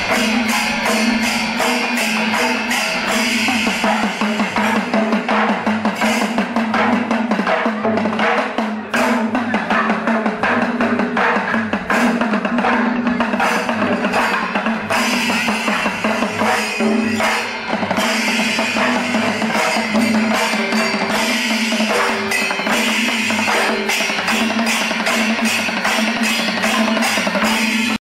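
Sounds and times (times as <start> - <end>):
music with dense drumming: 0.0 - 28.0.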